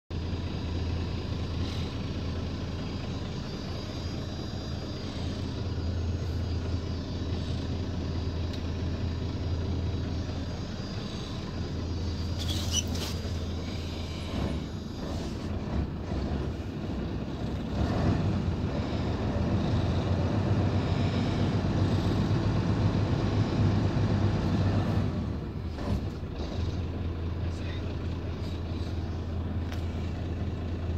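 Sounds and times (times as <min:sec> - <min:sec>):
diesel engine idling: 0:00.1 - 0:30.9.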